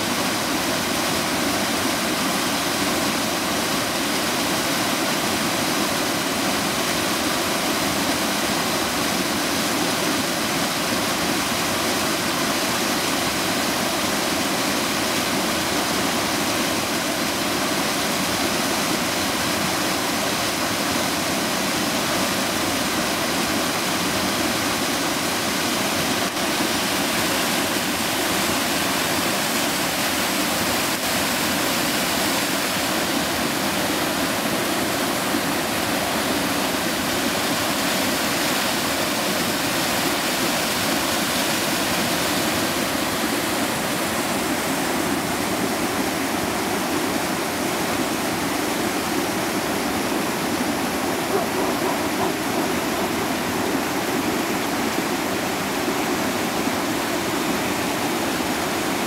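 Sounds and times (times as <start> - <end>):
waterfall pouring over rock: 0.0 - 59.0.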